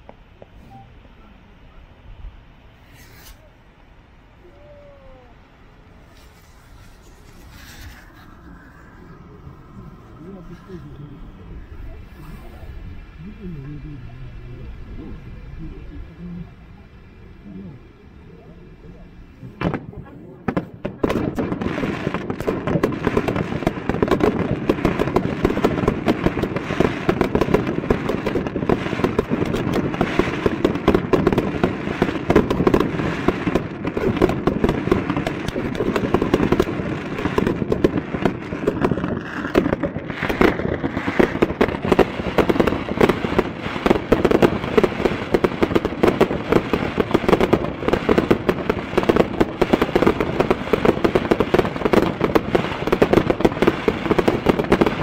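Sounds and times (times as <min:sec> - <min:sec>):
fireworks bangs and crackles: 0:00.0 - 0:01.2, 0:05.8 - 0:55.0.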